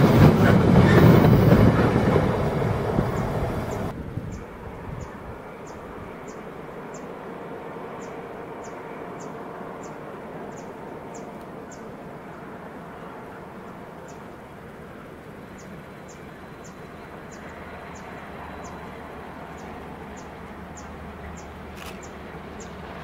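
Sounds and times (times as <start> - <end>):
distant freight train rumble: 0.0 - 23.0.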